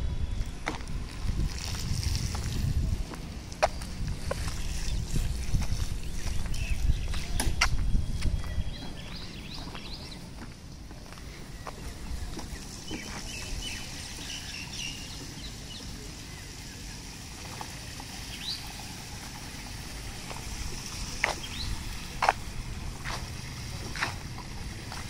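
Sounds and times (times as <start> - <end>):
birds chirping: 3.0 - 25.0.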